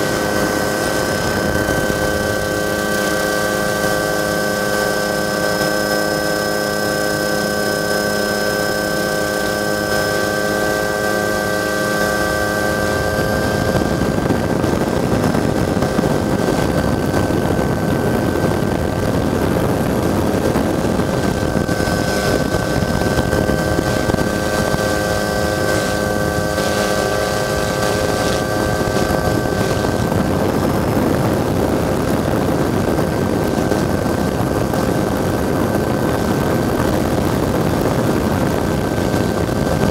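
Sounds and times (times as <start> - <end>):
helicopter turbine whine: 0.0 - 39.9
rotor and wind rushing: 0.0 - 39.9.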